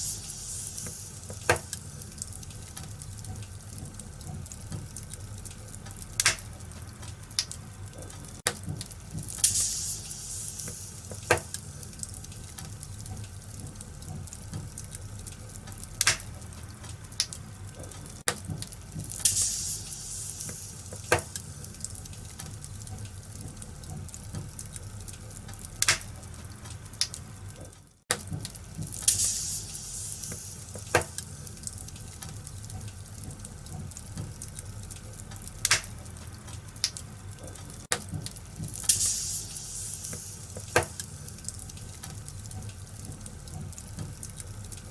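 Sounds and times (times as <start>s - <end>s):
fire hiss and low rumble: 0.0s - 44.9s
sharp pops from fire: 0.0s - 44.9s
wood fire crackling: 0.0s - 44.9s.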